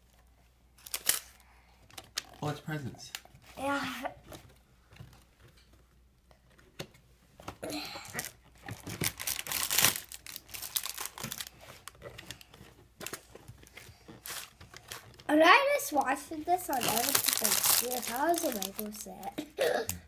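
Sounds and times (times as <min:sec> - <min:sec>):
crinkling and rustling: 0:00.0 - 0:20.0.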